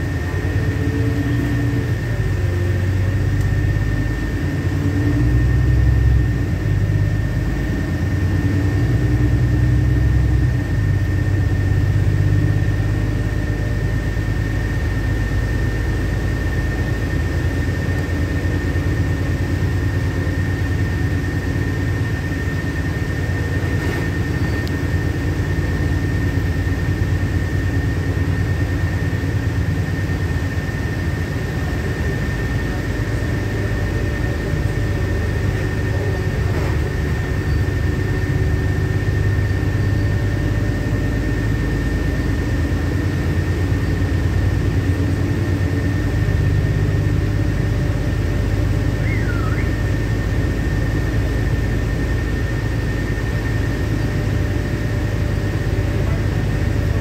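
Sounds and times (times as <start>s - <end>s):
bus engine droning: 0.0s - 57.0s
road noise: 0.0s - 57.0s.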